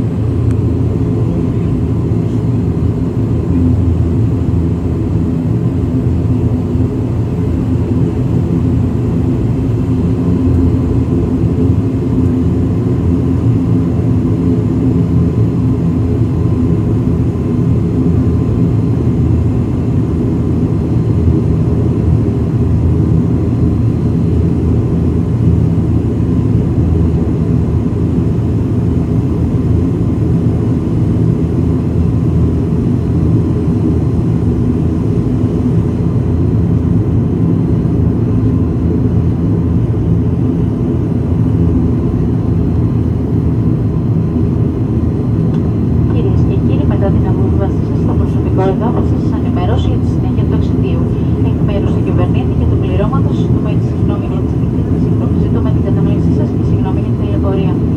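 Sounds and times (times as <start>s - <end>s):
faint steady whine: 0.0s - 57.9s
turboprop engines droning: 0.0s - 57.9s.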